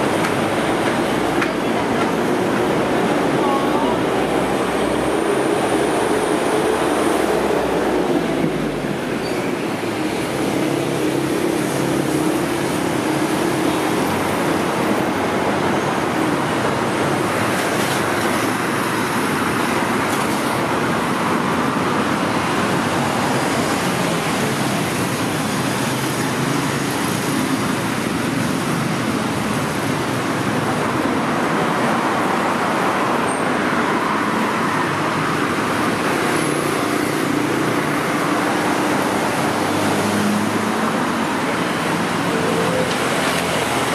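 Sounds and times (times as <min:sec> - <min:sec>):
road traffic: 0:00.0 - 0:43.9.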